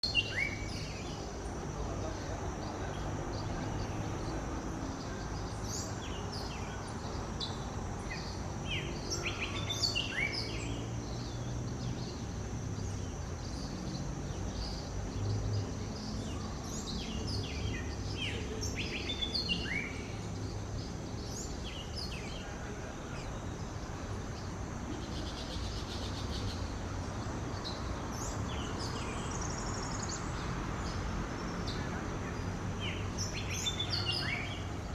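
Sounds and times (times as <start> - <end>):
wild birds chirping: 0.0 - 34.9.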